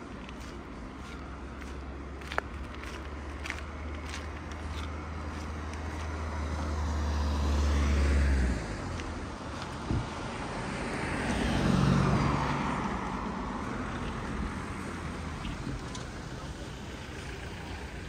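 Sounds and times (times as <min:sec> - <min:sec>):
vehicle engine passing by: 0:01.0 - 0:18.0.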